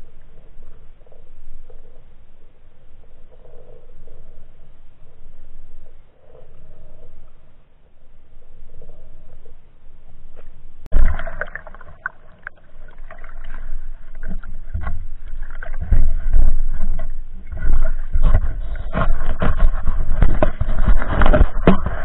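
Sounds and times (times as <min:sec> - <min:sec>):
muffled underwater water sloshing: 0:00.0 - 0:22.0.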